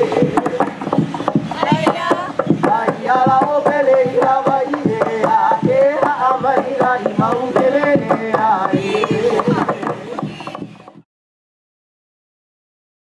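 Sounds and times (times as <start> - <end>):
gourd drum strikes: 0.0 - 11.0.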